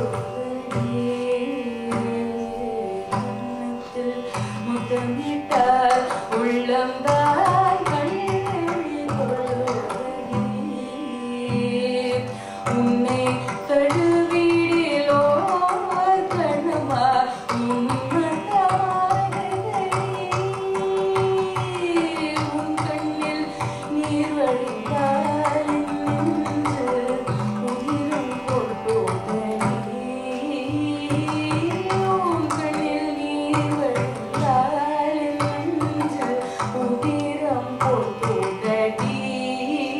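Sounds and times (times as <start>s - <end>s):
woman singing ornamented melody: 0.0s - 39.9s.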